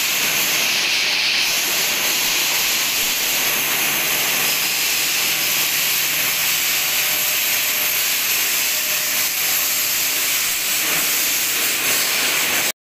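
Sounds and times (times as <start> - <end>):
abrasive blasting hiss: 0.0 - 12.7.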